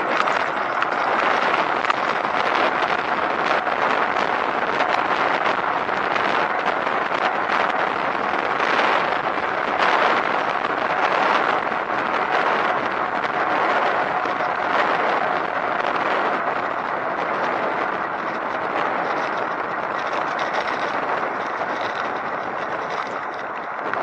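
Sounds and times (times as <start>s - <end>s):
tyres on road: 0.0s - 24.0s.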